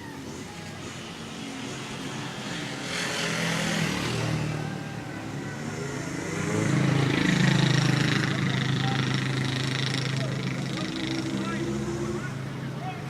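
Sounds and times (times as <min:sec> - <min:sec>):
vehicle engine running: 0:00.5 - 0:13.0.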